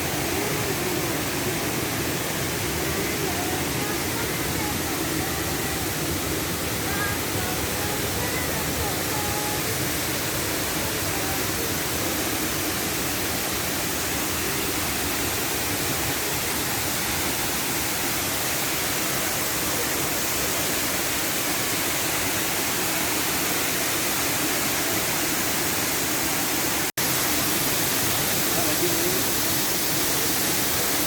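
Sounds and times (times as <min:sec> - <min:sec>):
waterfall pouring: 0:00.0 - 0:31.0.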